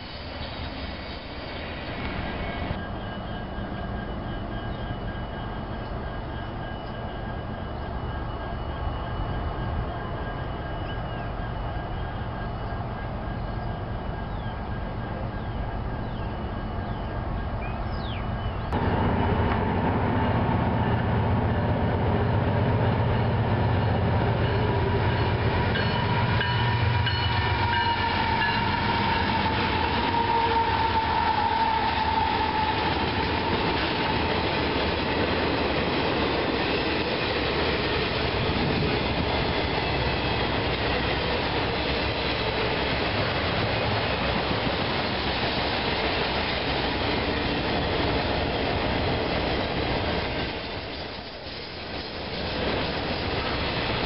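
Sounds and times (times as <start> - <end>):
low train rumble: 0.0 - 54.0.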